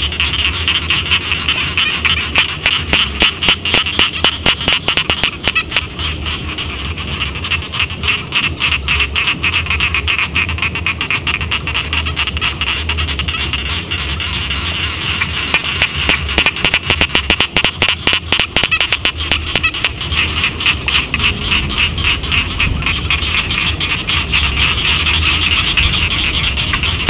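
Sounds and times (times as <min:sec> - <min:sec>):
frogs calling in chorus: 0:00.0 - 0:27.0
steady low hum: 0:00.0 - 0:27.0.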